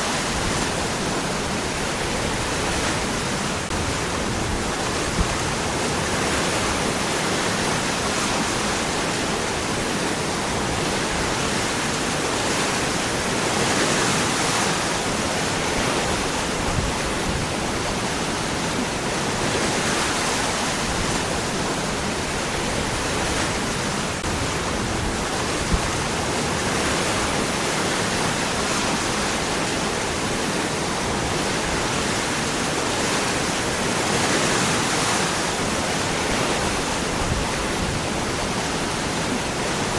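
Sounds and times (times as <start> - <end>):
waterfall rushing over rocks: 0.0 - 39.9.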